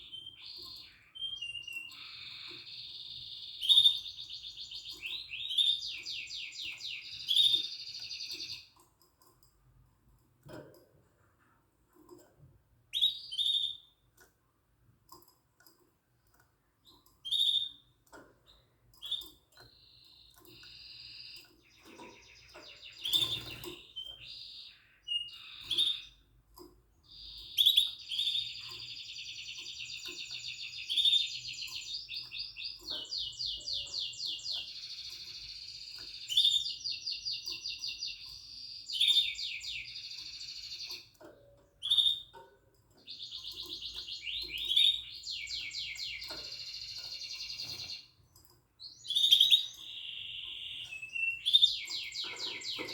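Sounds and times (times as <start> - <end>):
canary singing trills: 0.0 - 9.4, 11.9 - 14.3, 15.1 - 52.9.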